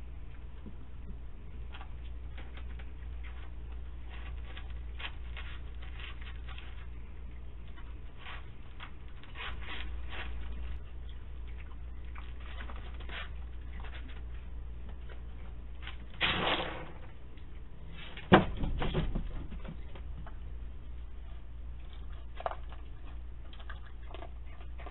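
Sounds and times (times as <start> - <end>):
animals eating kibble: 0.0 - 24.9
low hum: 0.0 - 24.9
animal scuffle: 1.5 - 24.9.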